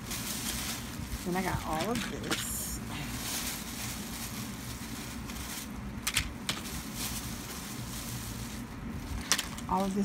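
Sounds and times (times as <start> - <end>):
plastic packs rustling and clacking: 0.0 - 10.0.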